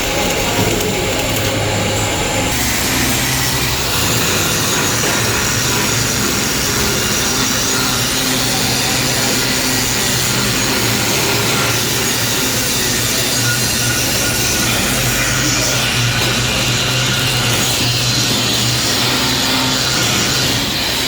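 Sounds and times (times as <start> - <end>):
crackling welding arc: 0.0 - 21.0
welding machine hum: 0.0 - 21.0.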